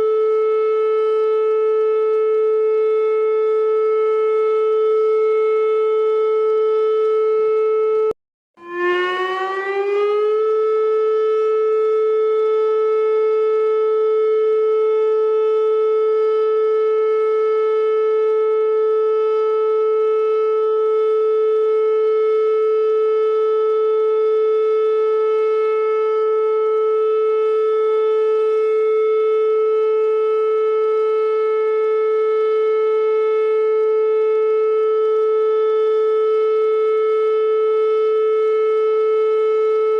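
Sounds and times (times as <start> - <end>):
alarm siren steady tone: 0.0 - 39.9.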